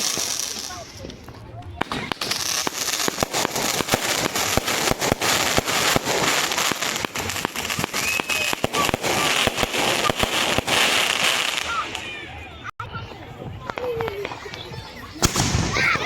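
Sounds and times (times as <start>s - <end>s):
fireworks bangs: 0.0s - 12.7s, 13.4s - 16.0s.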